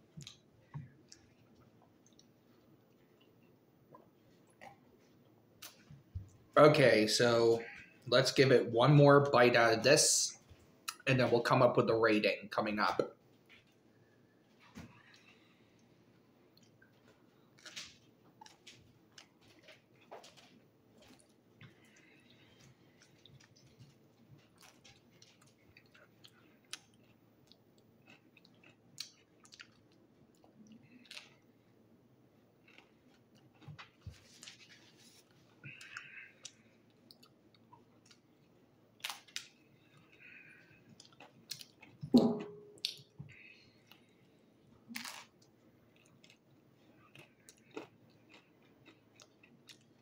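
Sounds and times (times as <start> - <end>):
person chewing pizza: 0.0 - 6.4, 13.3 - 42.0, 42.6 - 50.0.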